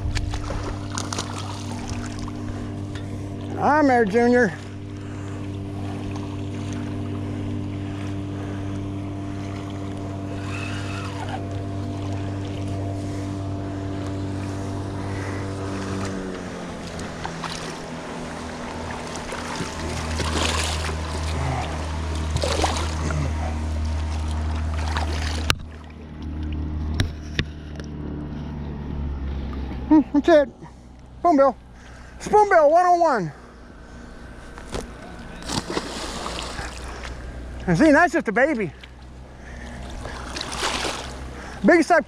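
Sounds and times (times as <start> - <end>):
water splashes: 0.0 - 28.0, 34.3 - 42.0
motor droning: 0.0 - 42.0.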